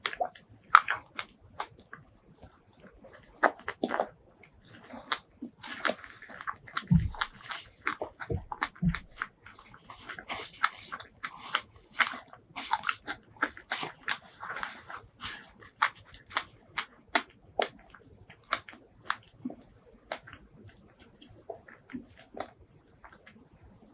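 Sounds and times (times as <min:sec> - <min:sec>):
biting and chewing: 0:00.0 - 0:23.5.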